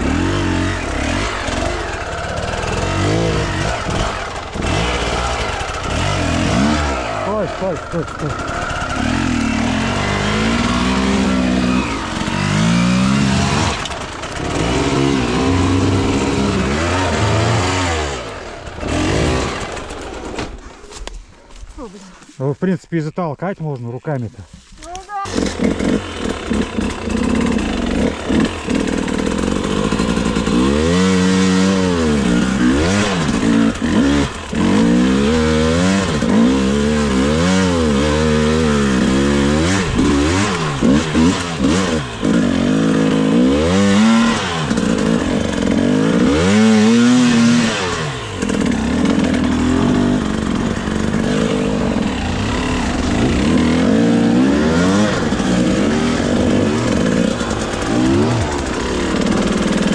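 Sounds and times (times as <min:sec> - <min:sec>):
dirt bike engine revving: 0:00.0 - 0:20.7, 0:25.2 - 0:59.9.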